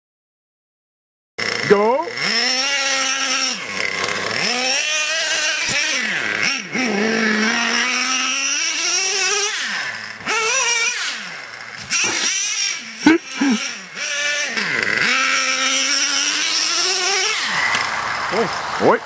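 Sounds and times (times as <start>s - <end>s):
small nitro engine revving: 1.4s - 19.0s.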